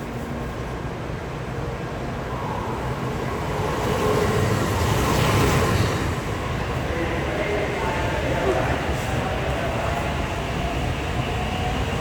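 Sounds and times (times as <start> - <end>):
high-speed train rushing past: 0.0 - 12.0.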